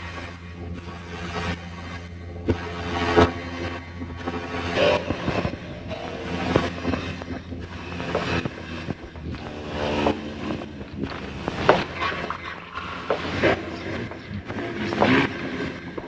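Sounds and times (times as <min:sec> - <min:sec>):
low drone hum with held tones: 0:00.0 - 0:16.0.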